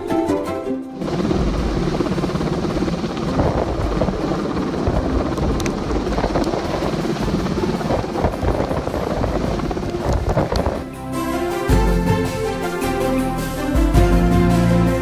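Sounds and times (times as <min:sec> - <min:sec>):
background music: 0:00.0 - 0:15.0
helicopter hovering overhead: 0:00.0 - 0:15.0.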